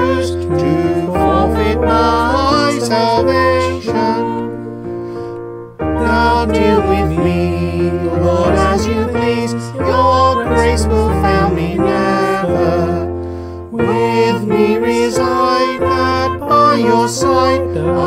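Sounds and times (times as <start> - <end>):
held-chord accompaniment: 0.0 - 18.0
hymn singing: 0.0 - 18.0.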